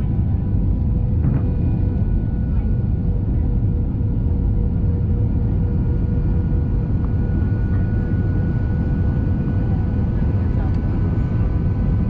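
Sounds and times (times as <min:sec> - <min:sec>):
airliner low rumble: 0:00.0 - 0:12.0
faint jet engine tones: 0:00.0 - 0:12.0.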